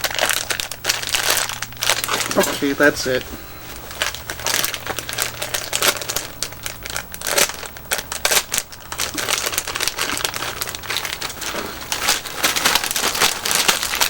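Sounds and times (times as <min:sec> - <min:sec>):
plastic candy packaging crinkling: 0:00.0 - 0:14.0.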